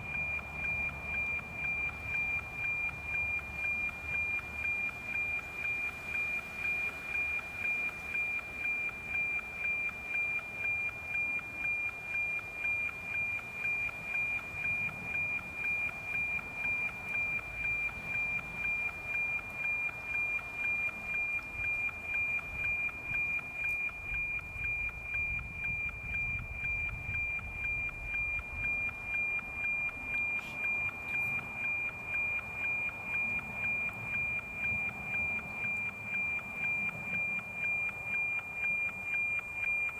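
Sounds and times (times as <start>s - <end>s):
regular tick-tock: 0.0s - 39.9s
steady high tone: 0.0s - 39.9s.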